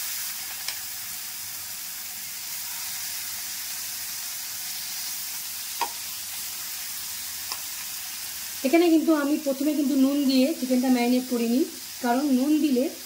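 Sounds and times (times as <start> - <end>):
chicken sizzling in butter: 0.0 - 13.0.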